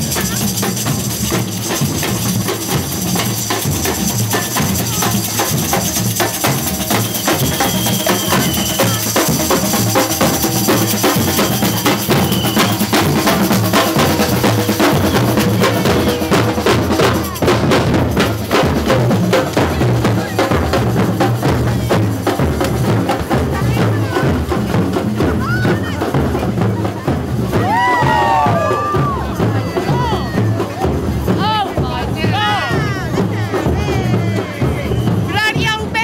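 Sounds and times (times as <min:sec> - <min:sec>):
drum band playing: 0:00.0 - 0:36.0.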